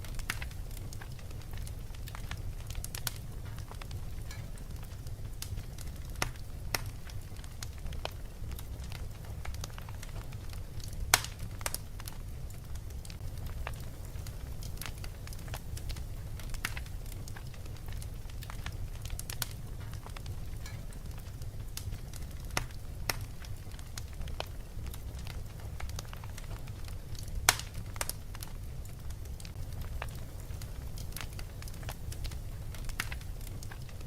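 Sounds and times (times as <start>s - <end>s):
fireplace crackling: 0.0s - 34.0s.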